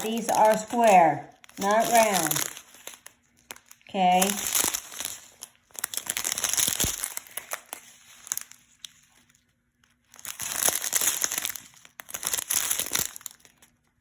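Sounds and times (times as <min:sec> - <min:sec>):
plastic bags crinkling with clicks: 0:00.0 - 0:14.0.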